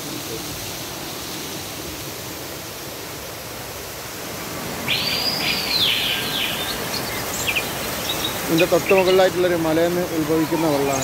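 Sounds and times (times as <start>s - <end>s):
waterfall splashing over rocks: 0.0s - 11.0s.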